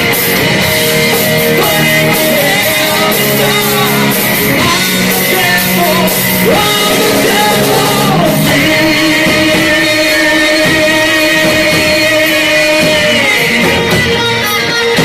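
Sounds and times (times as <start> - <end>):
heavy metal band playing: 0.0 - 15.0
shouted or sung vocals: 1.5 - 15.0.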